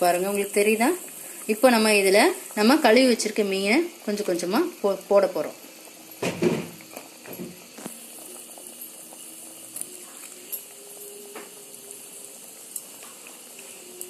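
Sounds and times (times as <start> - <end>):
curry bubbling in a pot: 0.0 - 14.0.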